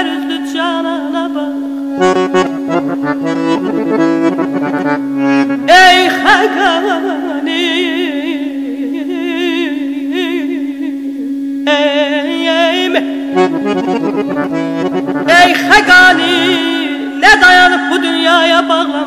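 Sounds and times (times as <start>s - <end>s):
held drone note: 0.0s - 19.0s
ornamented folk melody: 0.0s - 19.0s.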